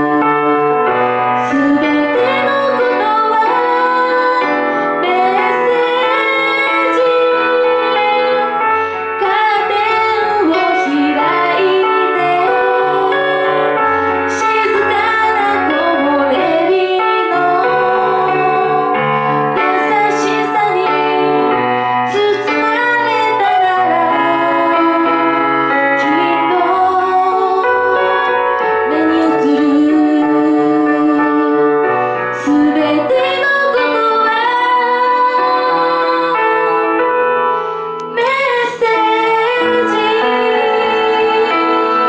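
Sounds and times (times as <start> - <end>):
instrumental accompaniment: 0.0 - 42.0
woman singing pop song: 0.0 - 42.0.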